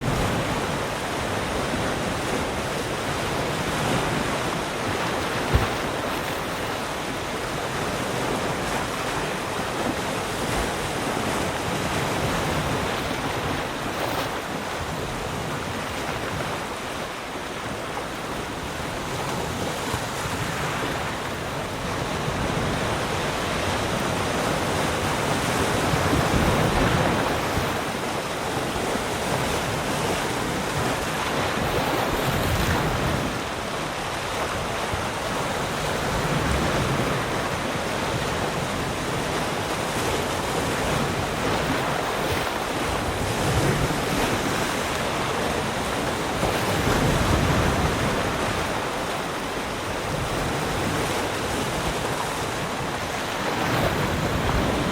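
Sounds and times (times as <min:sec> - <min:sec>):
waves breaking on shore: 0:00.0 - 0:54.9.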